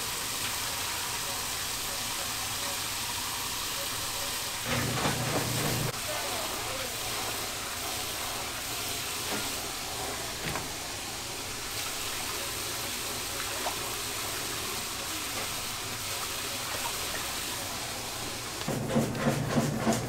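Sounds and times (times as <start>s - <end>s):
faucet running into sink: 0.0s - 20.0s.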